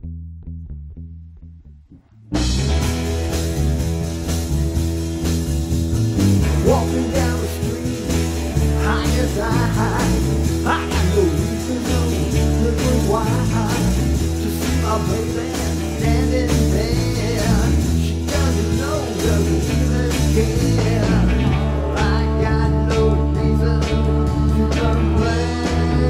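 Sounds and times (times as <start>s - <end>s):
garage rock band playing: 2.3s - 26.0s.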